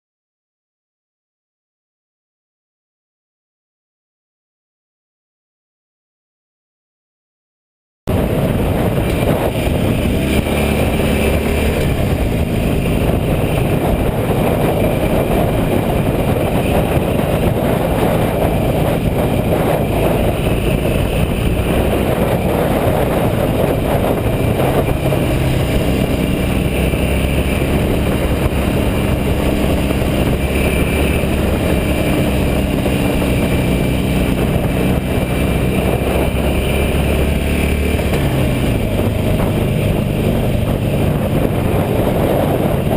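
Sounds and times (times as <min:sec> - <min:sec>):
road and wind noise: 0:08.1 - 0:42.9
vehicle engine running: 0:08.1 - 0:42.9.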